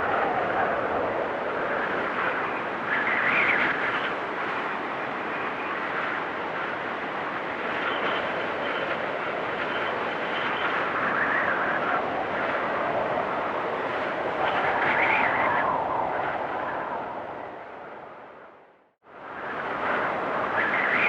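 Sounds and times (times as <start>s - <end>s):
wind storm rushing: 0.0s - 21.0s.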